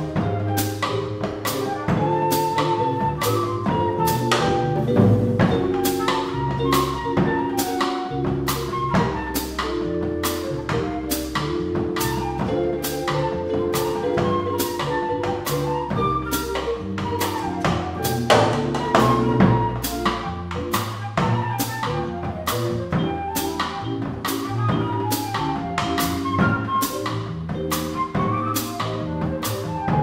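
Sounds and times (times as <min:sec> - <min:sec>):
clarinet: 0:00.0 - 0:30.0
drum kit with cymbals: 0:00.0 - 0:30.0
upright bass: 0:00.0 - 0:30.0.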